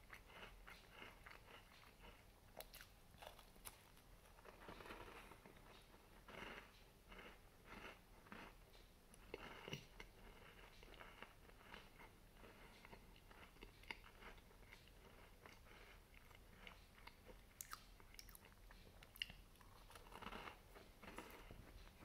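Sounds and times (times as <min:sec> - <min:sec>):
person chewing cookie crunches: 0:00.0 - 0:22.0.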